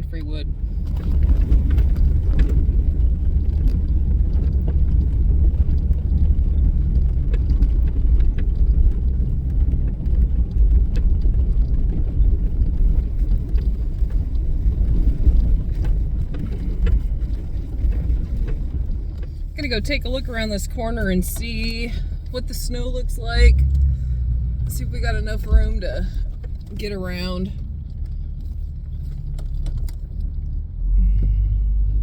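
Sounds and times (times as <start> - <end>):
engine and tyre rumble: 0.0 - 32.0
small knocks and rattles: 0.7 - 19.9, 23.6 - 30.6.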